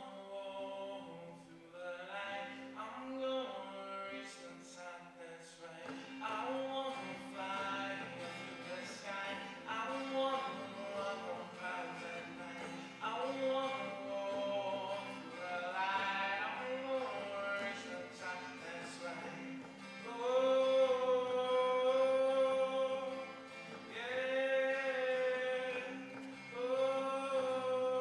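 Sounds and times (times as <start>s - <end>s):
acoustic guitar strumming: 0.0s - 28.0s
man singing: 0.0s - 28.0s.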